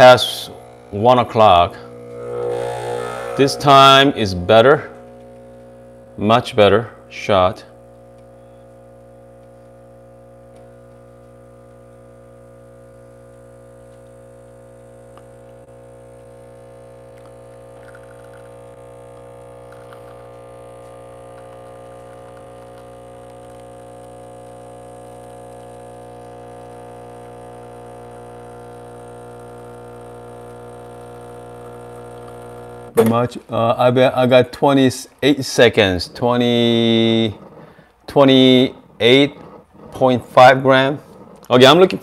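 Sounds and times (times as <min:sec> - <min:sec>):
espresso machine pump humming: 0:00.0 - 0:42.0.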